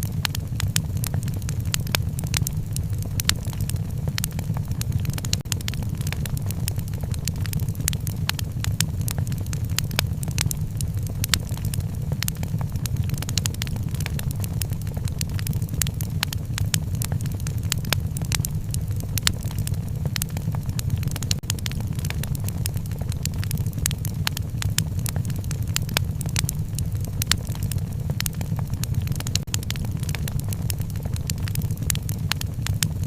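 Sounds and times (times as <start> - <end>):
fire pops and snaps: 0.0 - 33.0
wood fire crackling: 0.0 - 33.0.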